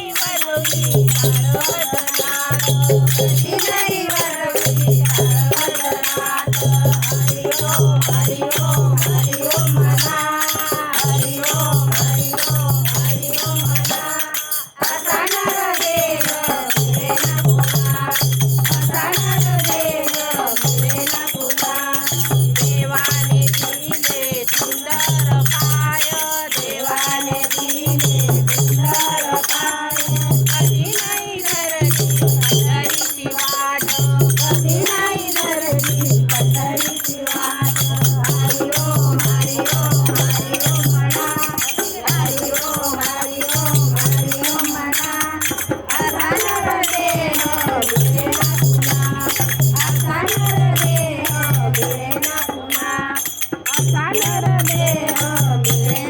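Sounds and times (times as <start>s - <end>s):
jangling hand percussion: 0.0s - 56.0s
women singing devotional song: 0.0s - 56.0s.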